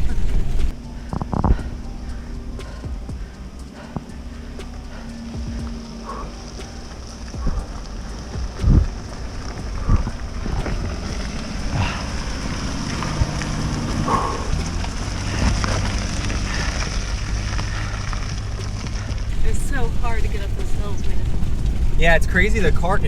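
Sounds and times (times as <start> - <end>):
engine running under load: 0.0 - 23.0
rain hiss: 0.0 - 23.0.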